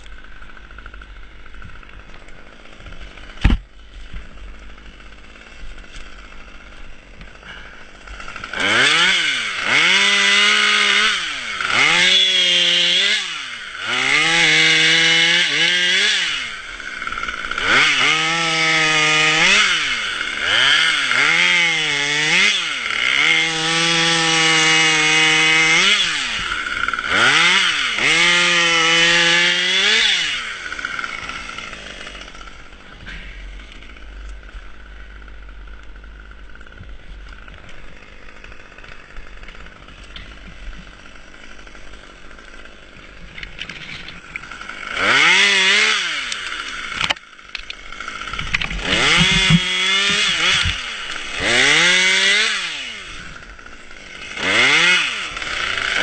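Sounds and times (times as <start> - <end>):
chainsaw running and revving: 0.0 - 56.0.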